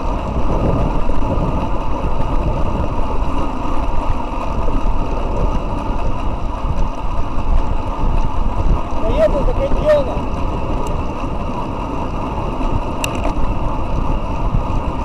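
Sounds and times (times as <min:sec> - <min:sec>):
bike tyres rumbling on asphalt: 0:00.0 - 0:15.0
wind rushing over microphone: 0:00.0 - 0:15.0.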